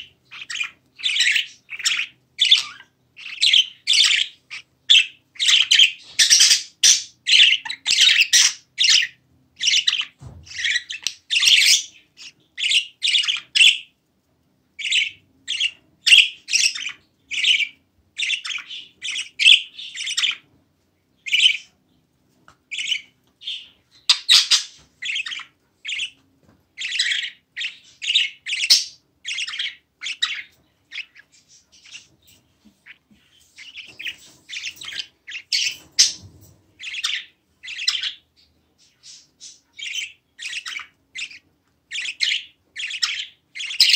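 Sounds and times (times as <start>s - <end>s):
budgerigar calls: 0.0s - 13.9s, 14.8s - 20.4s, 21.3s - 21.7s, 22.7s - 26.2s, 26.8s - 33.0s, 33.6s - 36.2s, 36.8s - 43.9s.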